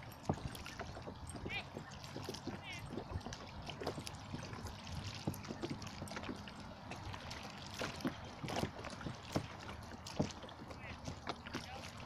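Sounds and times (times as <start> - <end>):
lake water lapping at shore: 0.0 - 12.0.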